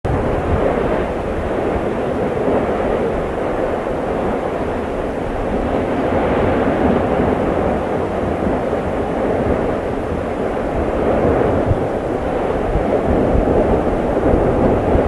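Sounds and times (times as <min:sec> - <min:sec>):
volcano rumbling: 0:00.1 - 0:15.0.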